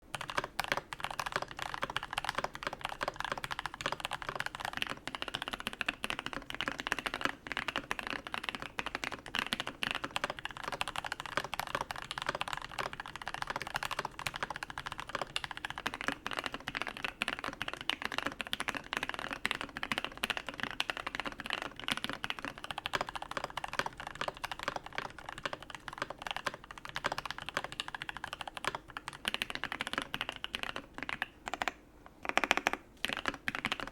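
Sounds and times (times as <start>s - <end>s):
fast mechanical keyboard typing: 0.1s - 33.9s.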